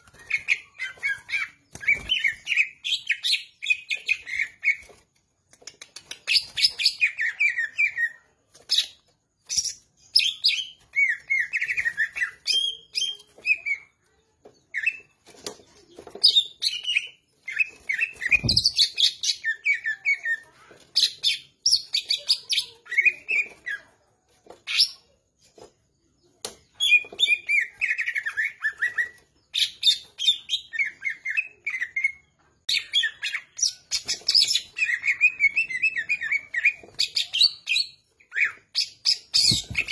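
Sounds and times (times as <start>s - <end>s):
bird singing chirps and trills: 0.0s - 5.0s, 6.0s - 39.9s.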